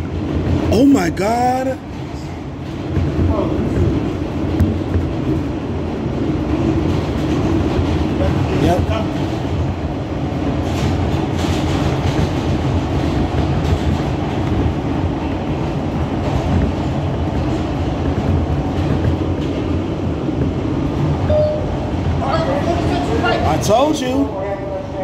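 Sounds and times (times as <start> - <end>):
subway car rumbling through tunnel: 0.0 - 25.0.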